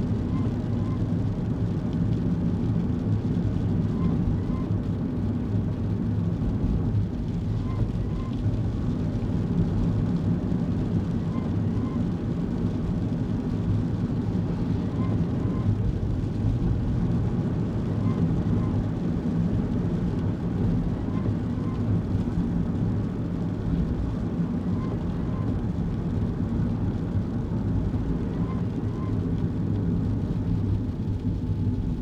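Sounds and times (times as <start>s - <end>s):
engine and road noise rumble: 0.0s - 32.0s.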